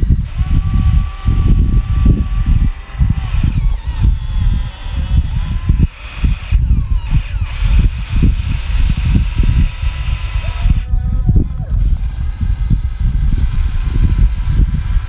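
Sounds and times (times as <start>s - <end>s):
diesel machinery rumble: 0.0s - 15.0s
faint machinery whines: 0.0s - 15.0s.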